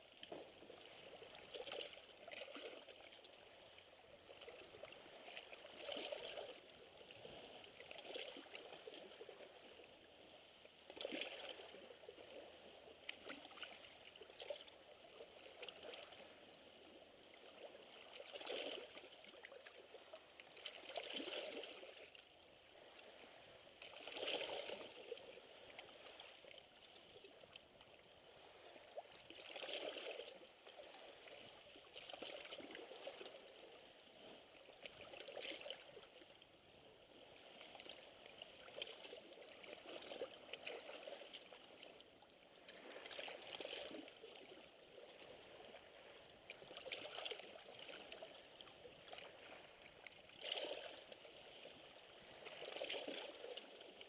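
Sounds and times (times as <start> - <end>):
waves lapping against rocks: 0.0 - 54.0.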